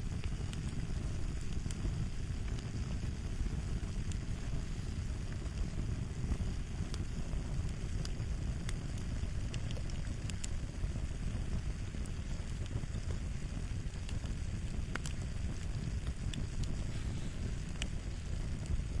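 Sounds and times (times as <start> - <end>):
fire pops and snaps: 0.0 - 19.0
low rumble of fire: 0.0 - 19.0.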